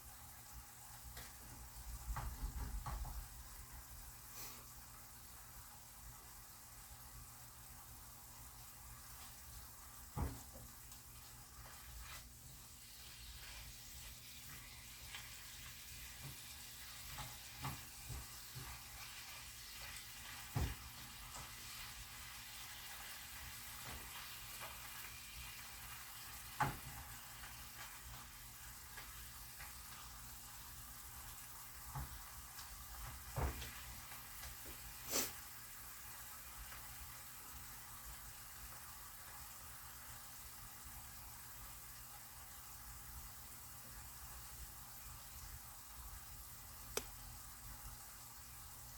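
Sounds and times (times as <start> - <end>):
chicken sizzling in oil: 3.1 - 48.9.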